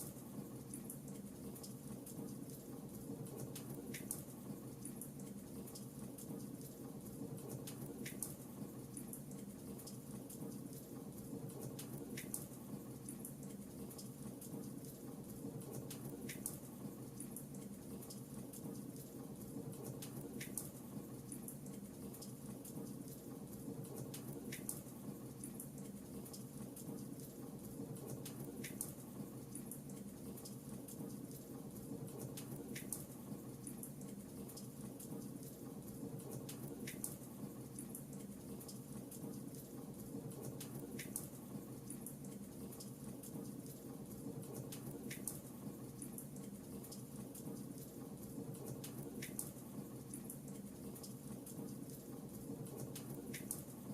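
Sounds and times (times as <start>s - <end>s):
fireplace fire crackling: 0.0s - 53.9s.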